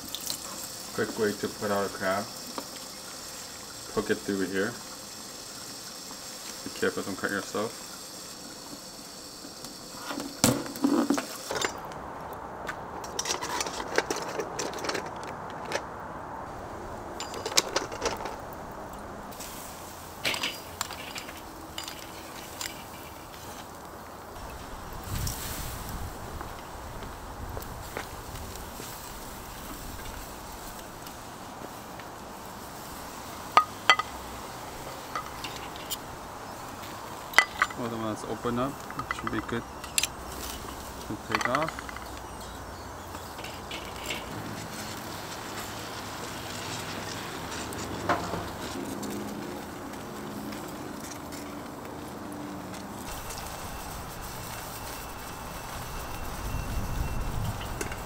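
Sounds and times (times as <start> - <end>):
steady hiss: 0.0 - 12.6, 16.2 - 58.0.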